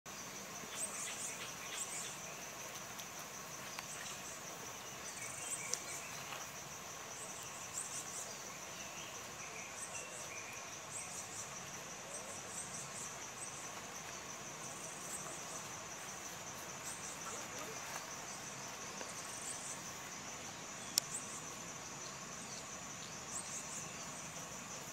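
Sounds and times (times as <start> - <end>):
insects droning: 0.1 - 24.9.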